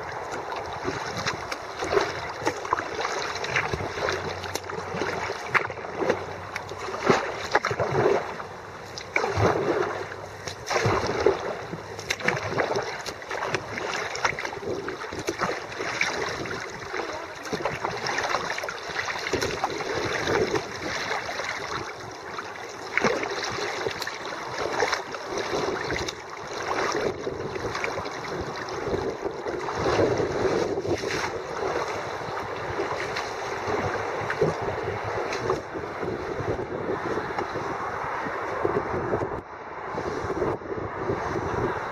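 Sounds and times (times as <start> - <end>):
kayak paddle splashing: 0.0 - 38.8
moving water wash: 0.0 - 41.9.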